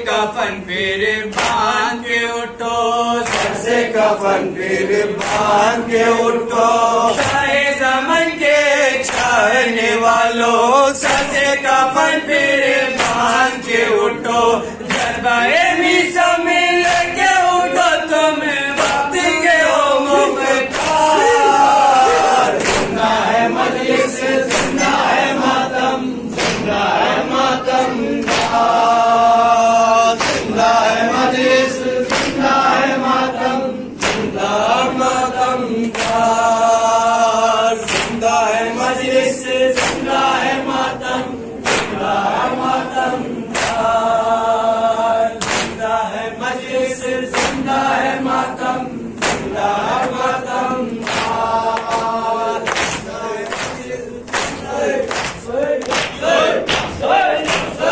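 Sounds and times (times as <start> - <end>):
men chanting in chorus: 0.0 - 57.9.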